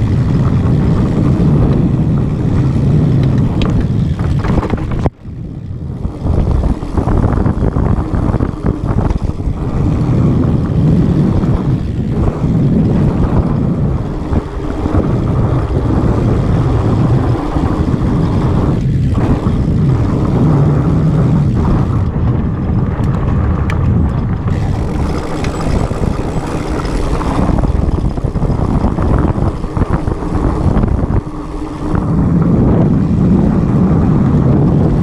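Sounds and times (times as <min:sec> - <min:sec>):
bike rattling over roots: 0:00.0 - 0:35.0
knobby tyres rolling on dirt: 0:00.0 - 0:35.0
wind buffeting microphone: 0:00.0 - 0:35.0.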